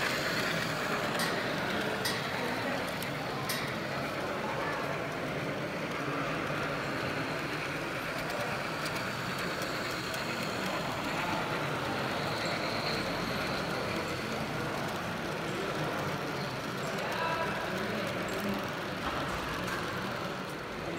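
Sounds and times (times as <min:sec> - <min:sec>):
model train wheels rumbling on track: 0:00.0 - 0:20.9.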